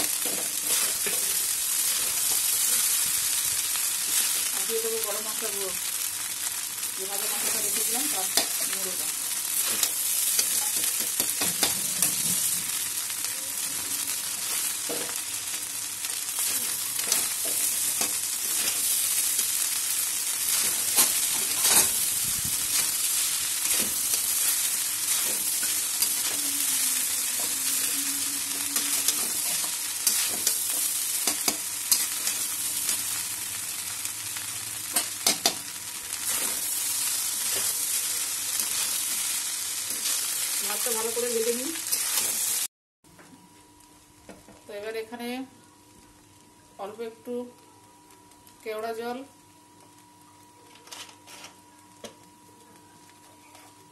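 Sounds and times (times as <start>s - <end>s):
rice sizzling in a pan: 0.0s - 42.7s, 43.4s - 53.9s.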